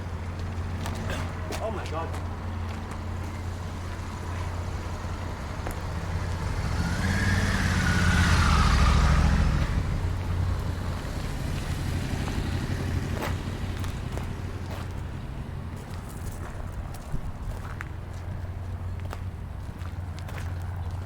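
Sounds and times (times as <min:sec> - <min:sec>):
motor engine passing by: 0:00.0 - 0:17.8.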